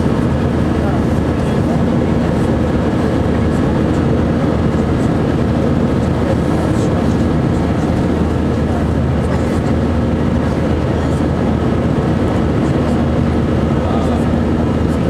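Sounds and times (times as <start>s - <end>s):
aircraft cabin engine and airflow noise: 0.0s - 15.0s.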